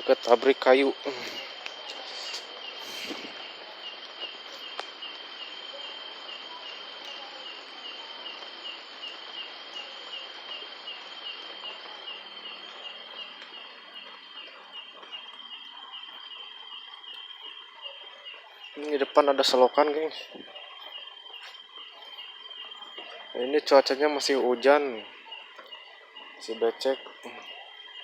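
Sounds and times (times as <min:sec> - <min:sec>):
background hiss: 0:00.0 - 0:28.0
insect chirping: 0:00.0 - 0:28.0.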